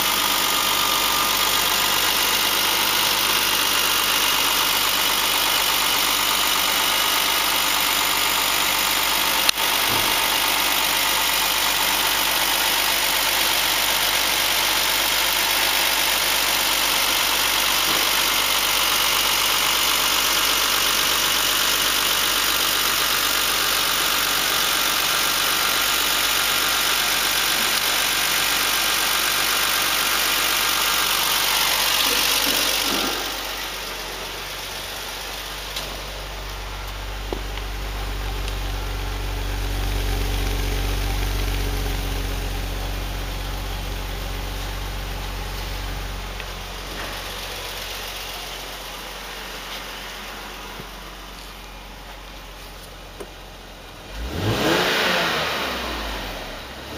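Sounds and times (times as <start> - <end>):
car engine revving and idling: 0.0 - 56.9.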